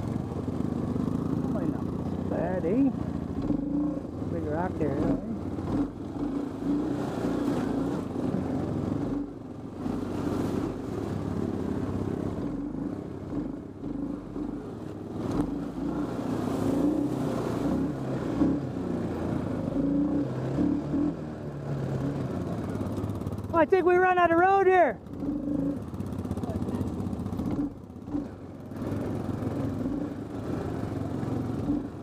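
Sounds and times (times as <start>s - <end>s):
atv engine revving: 0.0s - 32.0s
water splashing: 0.0s - 32.0s.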